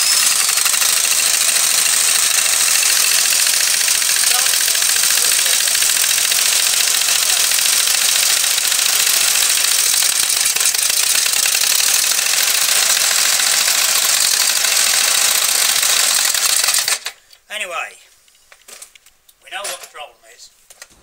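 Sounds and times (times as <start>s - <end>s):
small engine running: 0.0s - 17.2s.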